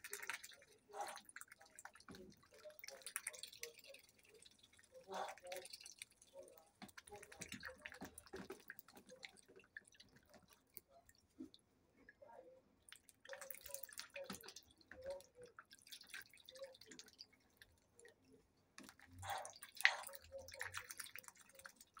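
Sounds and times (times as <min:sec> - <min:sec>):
duck dabbling in water: 0:00.0 - 0:22.0.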